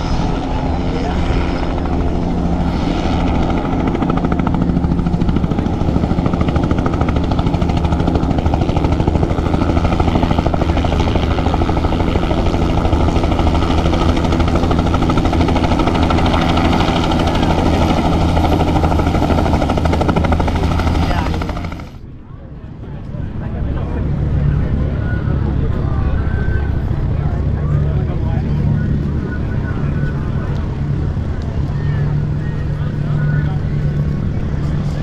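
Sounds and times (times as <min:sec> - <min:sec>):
helicopter engine drone: 0:00.0 - 0:35.0
helicopter rotor beat: 0:00.0 - 0:35.0.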